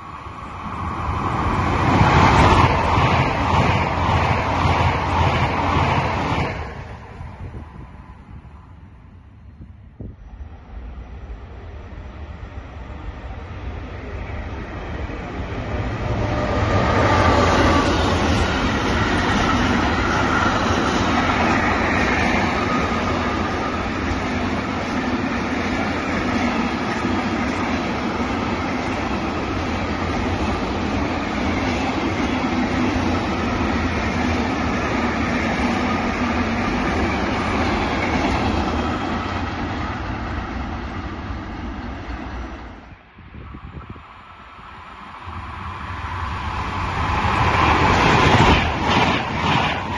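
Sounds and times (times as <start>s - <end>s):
freight train passing: 0.0s - 49.9s.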